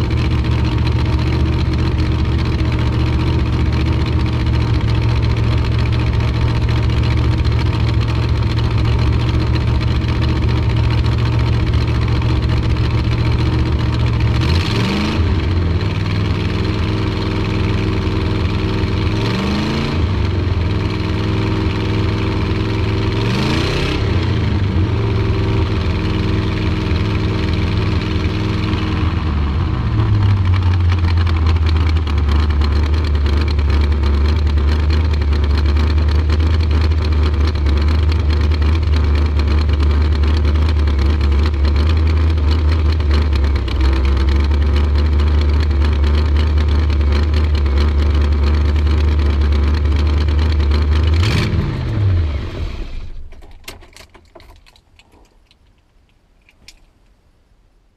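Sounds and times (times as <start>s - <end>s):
car engine idling and revving: 0.0s - 54.7s.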